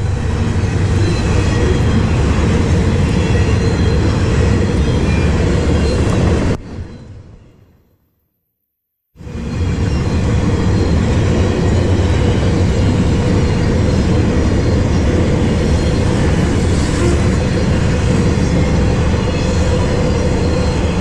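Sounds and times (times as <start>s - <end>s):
train wheels rumbling on rails: 0.0s - 7.2s, 9.2s - 21.0s.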